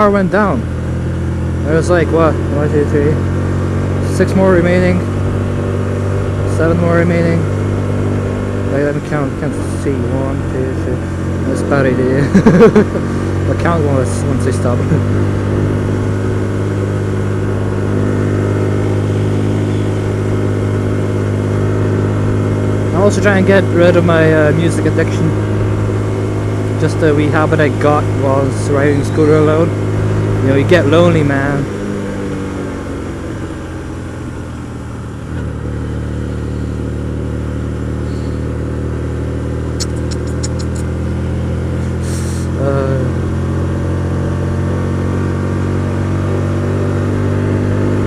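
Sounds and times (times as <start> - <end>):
motorcycle engine cruising: 0.0 - 48.0
wind and road noise: 0.0 - 48.0.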